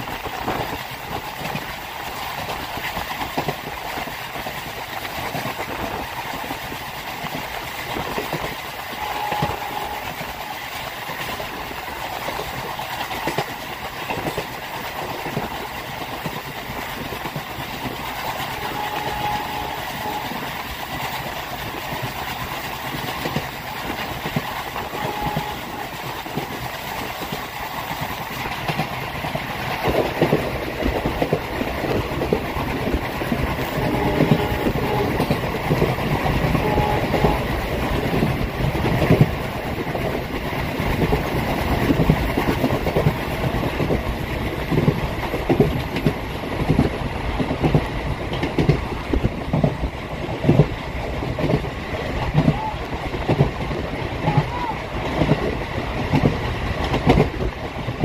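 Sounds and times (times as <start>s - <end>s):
train rumble: 0.0s - 58.0s
train wheels clattering: 0.0s - 58.0s.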